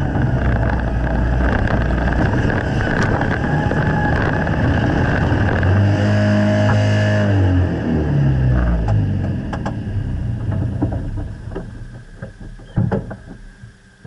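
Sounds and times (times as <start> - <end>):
vehicle engine driving away: 0.0 - 12.0.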